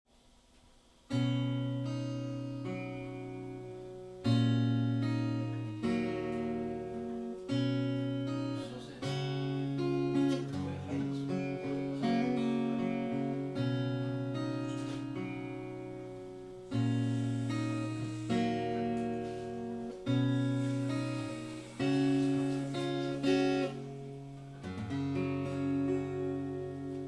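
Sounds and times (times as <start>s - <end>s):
acoustic guitar chords: 1.0s - 27.0s.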